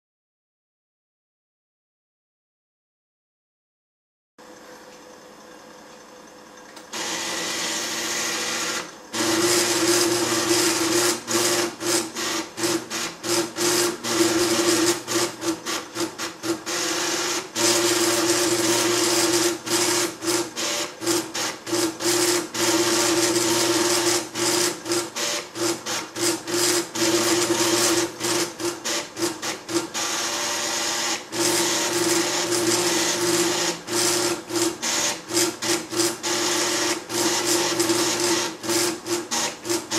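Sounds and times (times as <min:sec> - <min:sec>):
plotter motors buzzing: 0:06.8 - 0:39.9.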